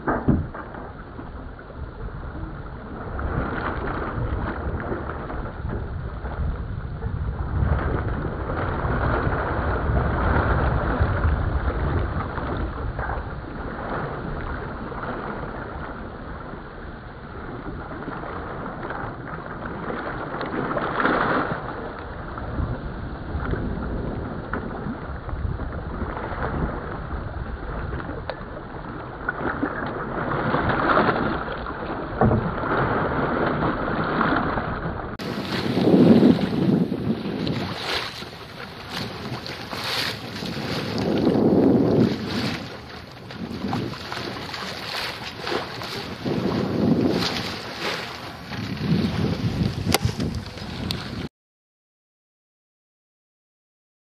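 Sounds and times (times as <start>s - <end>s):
water rushing along hull: 0.0s - 51.3s
wind buffeting microphone: 0.0s - 51.3s.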